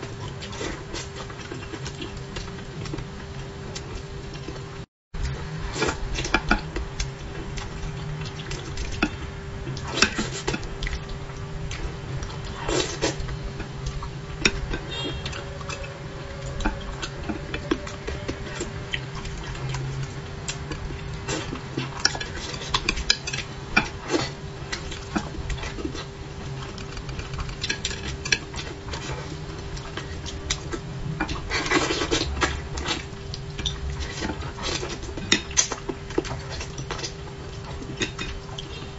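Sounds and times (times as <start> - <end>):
chewing: 0.0 - 4.6, 5.2 - 38.9
steady low hum: 0.0 - 38.9.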